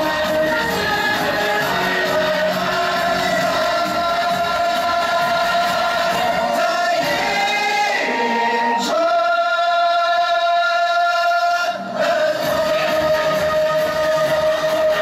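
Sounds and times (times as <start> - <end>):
choral singing: 0.0 - 15.0.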